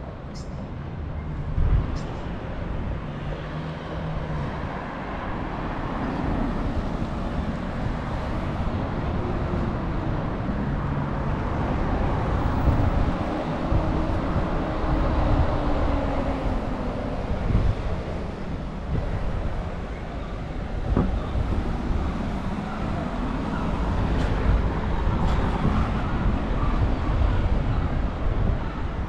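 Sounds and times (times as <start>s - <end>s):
cars passing on street: 0.0s - 29.0s.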